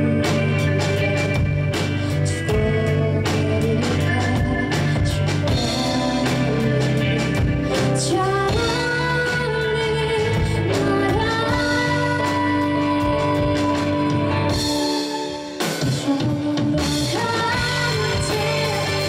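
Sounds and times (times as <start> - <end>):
bass guitar: 0.0 - 19.0
drum kit: 0.0 - 19.0
electric guitars: 0.0 - 19.0
keyboard: 0.0 - 19.0
woman singing lead: 0.0 - 19.0.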